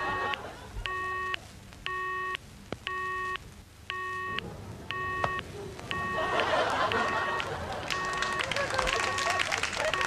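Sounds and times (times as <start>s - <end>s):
telephone busy tone: 0.0s - 10.0s.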